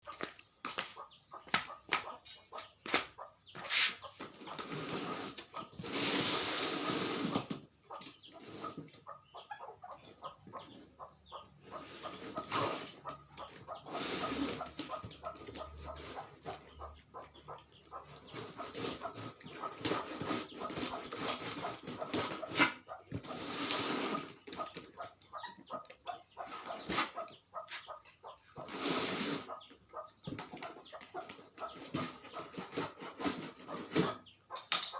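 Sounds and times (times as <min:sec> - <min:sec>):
chickens clucking and scuffling: 0:00.0 - 0:34.9.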